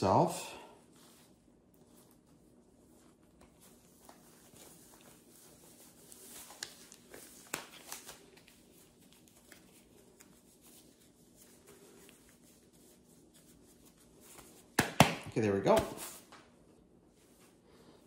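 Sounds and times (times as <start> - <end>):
rubber gloves rustling: 0.0 - 18.0.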